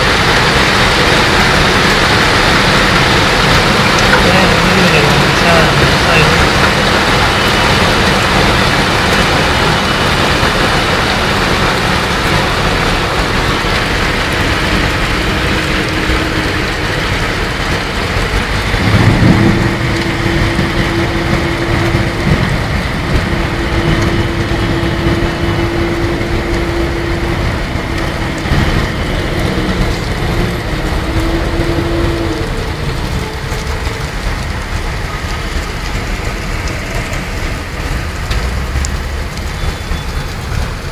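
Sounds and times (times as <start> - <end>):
hail and heavy rain: 0.0 - 40.9.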